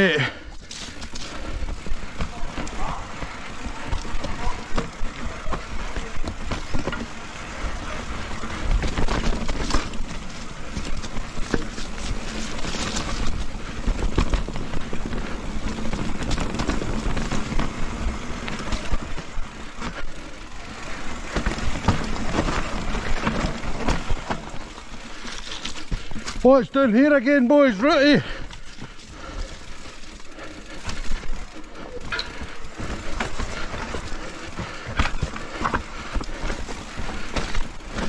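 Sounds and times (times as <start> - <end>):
bike knocking and rattling: 0.0 - 38.0
wind and tyre noise: 0.0 - 38.0.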